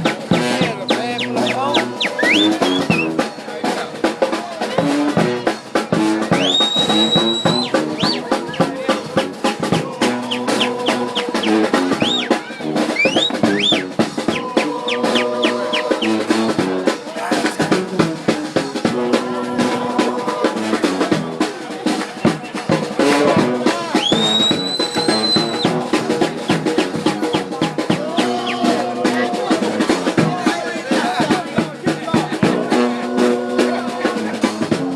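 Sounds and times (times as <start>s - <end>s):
brass band playing: 0.0s - 34.9s
snare and bass drum beat: 0.0s - 34.9s.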